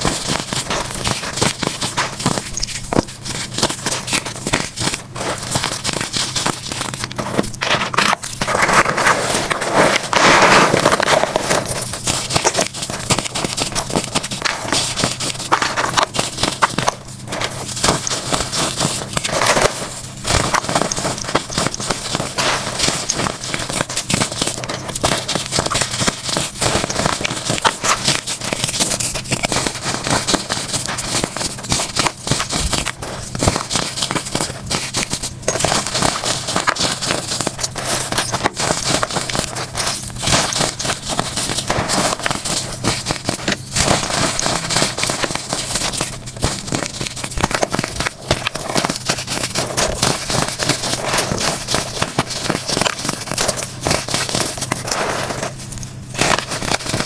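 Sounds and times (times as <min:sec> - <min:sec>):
crackling and crunching of blocks: 0:00.0 - 0:57.0.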